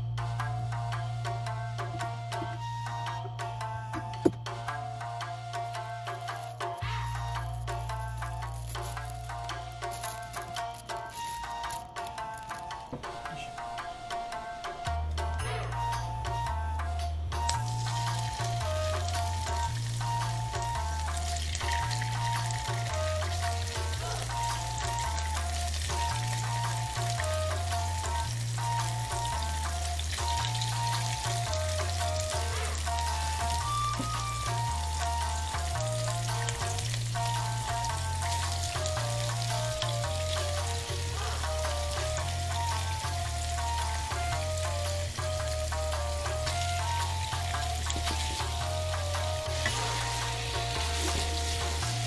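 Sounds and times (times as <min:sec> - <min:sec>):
background music: 0:00.0 - 0:52.0
tofu sizzling in oil: 0:04.5 - 0:12.9, 0:17.3 - 0:52.0.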